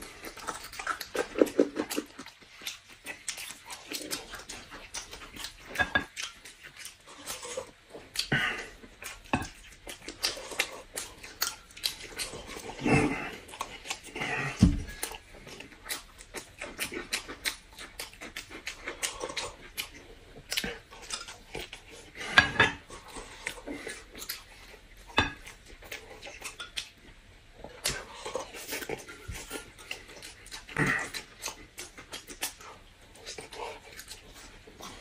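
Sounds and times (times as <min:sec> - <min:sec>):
wet chewing and lip-smacking: 0:00.0 - 0:22.2, 0:22.8 - 0:35.0.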